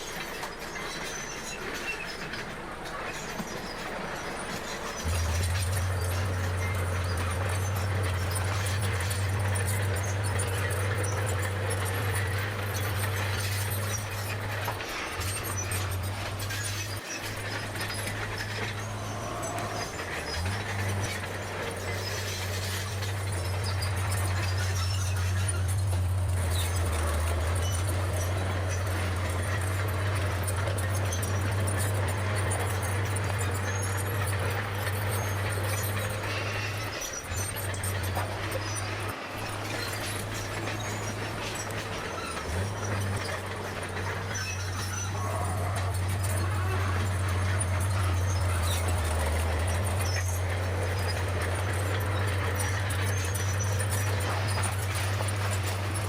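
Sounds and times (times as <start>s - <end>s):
bulldozer diesel engine droning: 0.0s - 56.0s
faint clattering: 0.0s - 56.0s
faint high squeaks: 0.0s - 56.0s.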